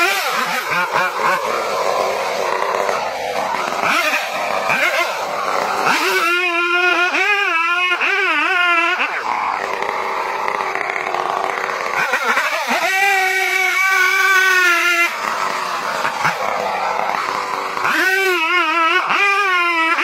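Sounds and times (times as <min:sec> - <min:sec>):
chainsaw cutting tree trunk: 0:00.0 - 0:20.0.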